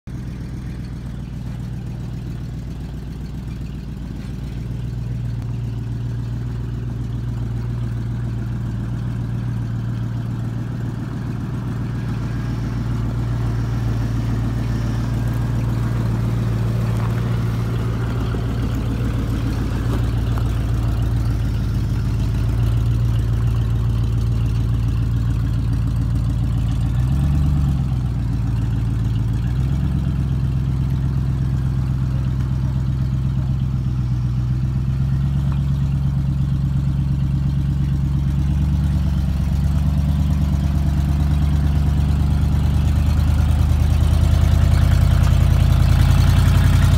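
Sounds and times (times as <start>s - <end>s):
truck engine at low revs: 0.0s - 46.9s.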